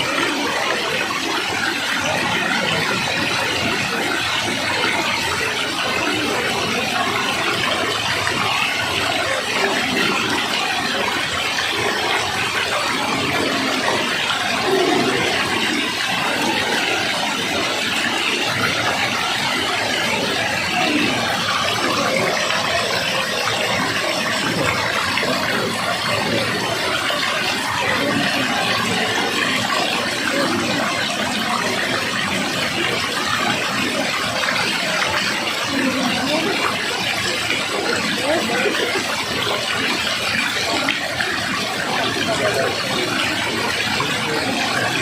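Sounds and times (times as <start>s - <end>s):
water rushing: 0.0s - 45.0s.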